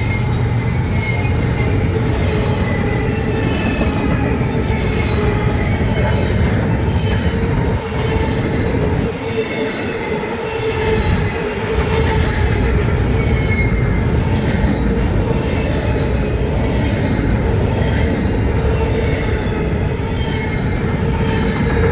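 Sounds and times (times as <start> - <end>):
faint high wheel squeal: 0.0 - 21.9
train wheels rumbling on rail: 0.0 - 21.9.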